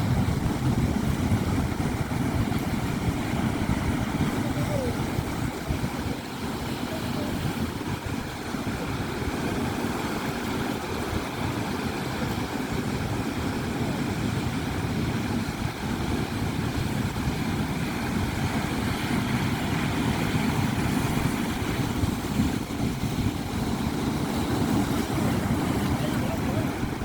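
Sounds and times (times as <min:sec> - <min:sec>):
sea waves rushing: 0:00.0 - 0:27.0.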